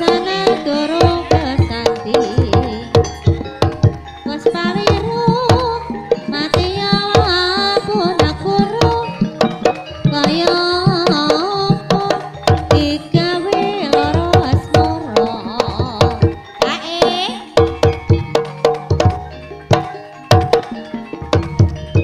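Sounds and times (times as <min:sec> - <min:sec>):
wavering sliding melody: 0:00.0 - 0:22.0.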